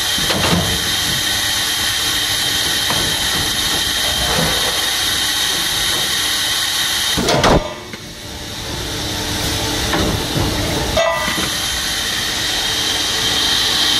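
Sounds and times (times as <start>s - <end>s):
machine hissing: 0.0s - 13.9s.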